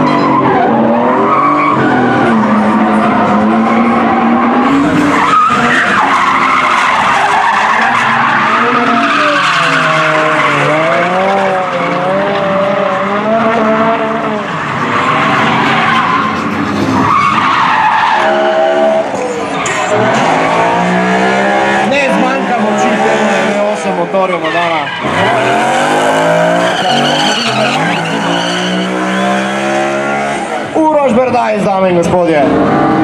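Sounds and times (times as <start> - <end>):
tyres screeching: 0.0 - 31.0
car engines revving hard: 0.0 - 33.0.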